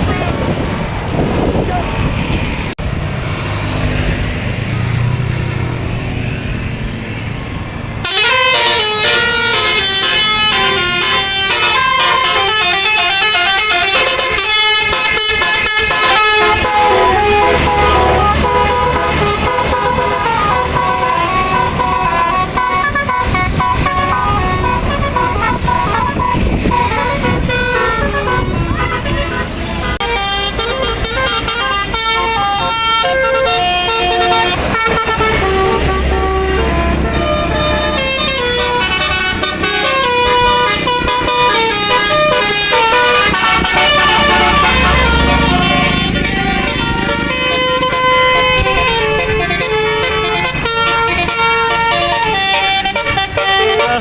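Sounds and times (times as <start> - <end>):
bus engine rumbling: 0.0 - 54.0
road noise: 0.0 - 54.0
multi-tone air horn melody: 8.0 - 54.0.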